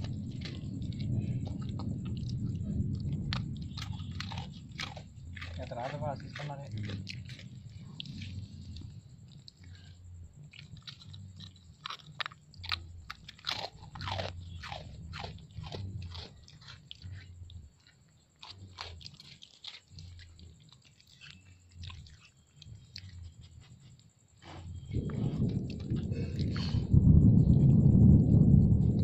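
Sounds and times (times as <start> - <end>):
dog crunching cookies: 0.0 - 23.9.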